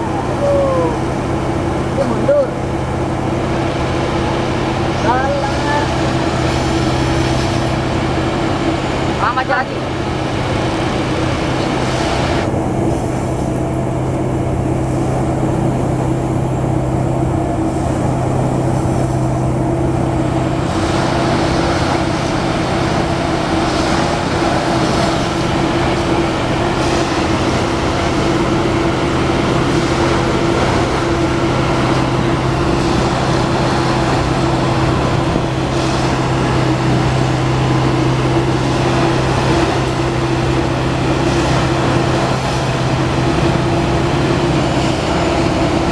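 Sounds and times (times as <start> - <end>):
diesel engine droning: 0.0 - 45.9
machinery hissing: 0.0 - 45.9.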